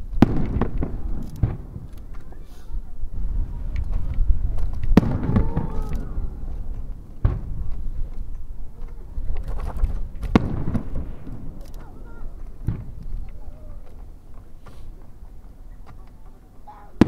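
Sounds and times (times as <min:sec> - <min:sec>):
firework shells booming: 0:00.0 - 0:15.4.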